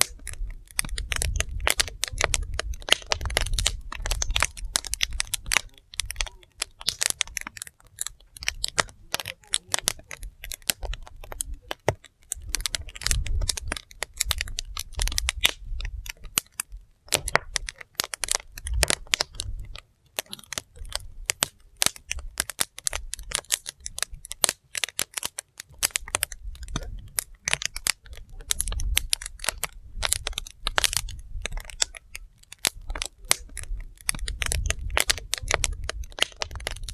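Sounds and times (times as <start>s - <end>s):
logs crackling and popping: 0.0s - 36.9s.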